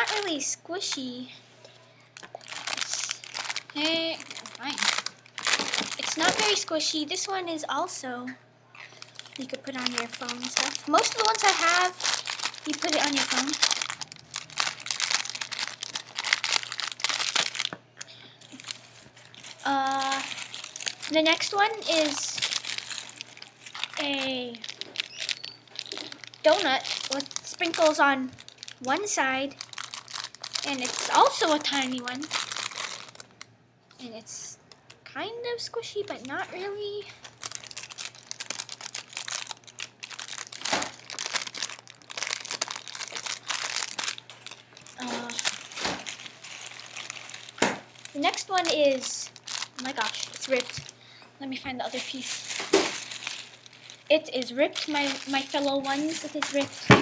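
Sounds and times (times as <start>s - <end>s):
plastic bag crinkling: 0.0s - 1.2s, 2.0s - 7.4s, 8.8s - 34.1s, 36.0s - 57.0s.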